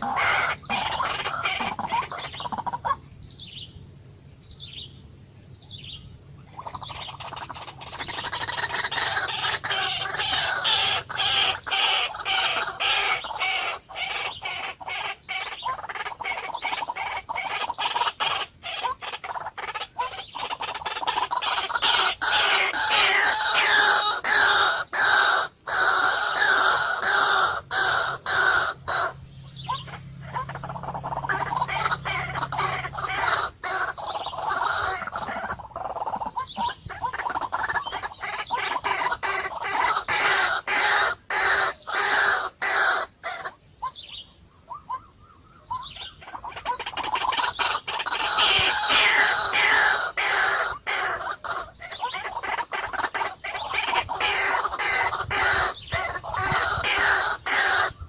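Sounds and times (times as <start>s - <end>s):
birds clucking and chirping: 0.0s - 58.0s.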